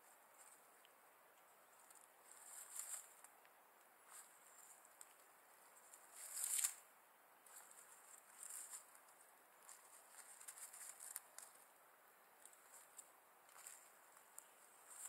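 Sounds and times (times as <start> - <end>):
dry reeds crackling and rustling: 0.0 - 15.0.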